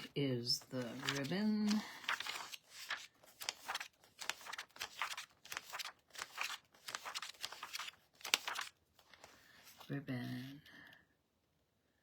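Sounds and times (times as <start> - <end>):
paper pages rustling: 0.0 - 9.9.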